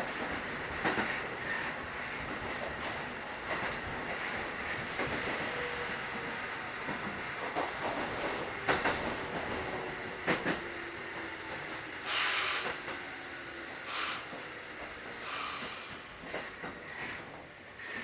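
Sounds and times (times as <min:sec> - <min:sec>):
sharp clicks from rails: 0:00.0 - 0:18.0
train rolling noise: 0:00.0 - 0:18.0.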